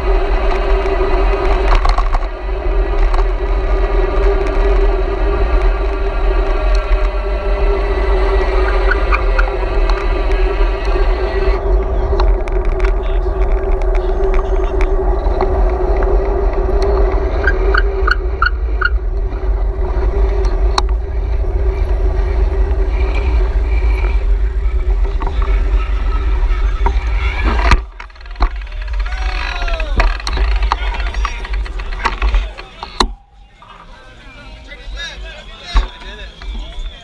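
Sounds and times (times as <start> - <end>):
road and traffic noise: 0.0 - 37.0
wind rumble on microphone: 0.0 - 37.0.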